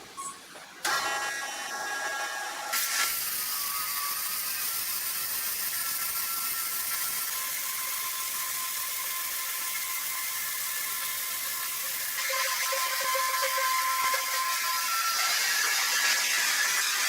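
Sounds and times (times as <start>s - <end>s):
sawmill machinery whirring: 0.8s - 17.0s.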